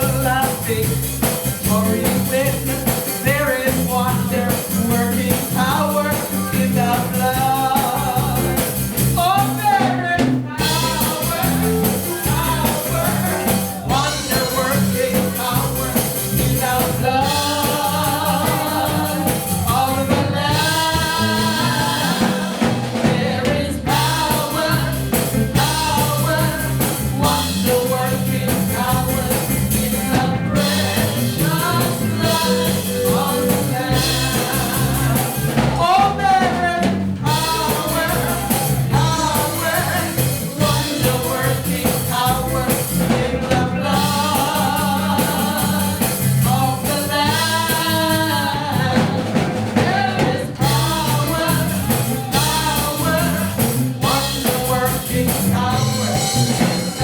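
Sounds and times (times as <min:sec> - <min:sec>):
drums keeping a steady beat: 0:00.0 - 0:57.0
gospel singing with band: 0:00.0 - 0:57.0.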